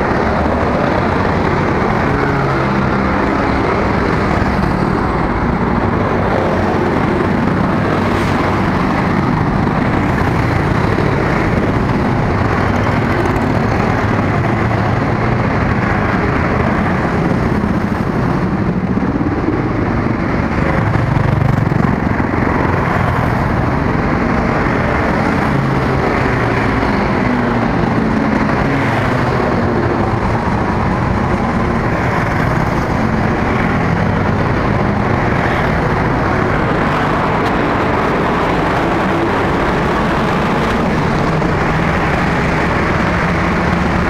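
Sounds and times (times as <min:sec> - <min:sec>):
motorcycle and car engines rushing: 0:00.0 - 0:44.0.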